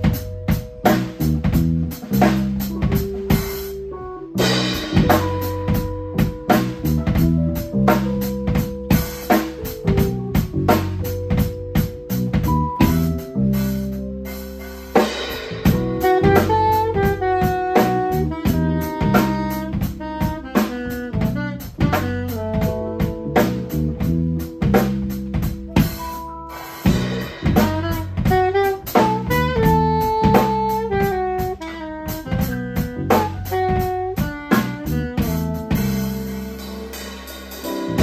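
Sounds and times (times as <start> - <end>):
bass: 0.0 - 38.0
drum hits: 0.0 - 38.0
electric keyboard: 0.0 - 38.0
saxophone melody: 0.0 - 38.0.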